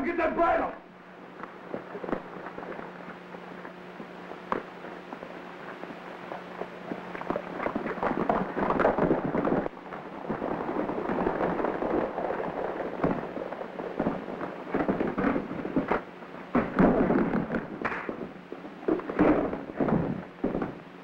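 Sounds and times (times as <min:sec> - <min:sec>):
crackly old film soundtrack: 0:00.0 - 0:21.0.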